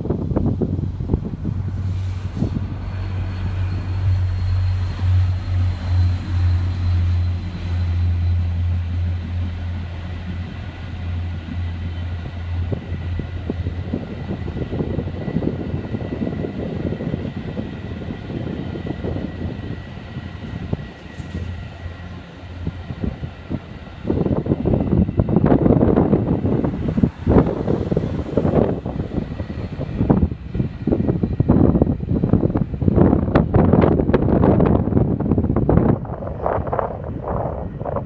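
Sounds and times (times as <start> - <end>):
locomotive engine drone: 0.0 - 38.0
train cars rattling over rails: 0.5 - 38.0.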